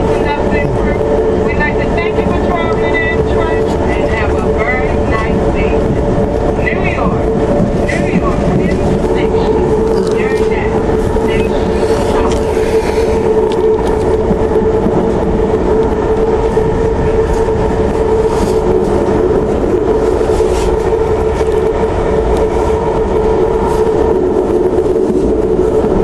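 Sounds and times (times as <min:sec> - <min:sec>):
steady hum: 0:00.0 - 0:26.0
train rumble: 0:00.0 - 0:26.0.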